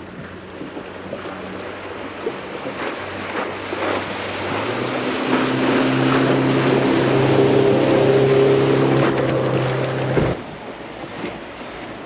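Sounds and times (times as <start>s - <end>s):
boat engine running: 0.0s - 12.0s
choppy water splashing: 0.0s - 12.0s.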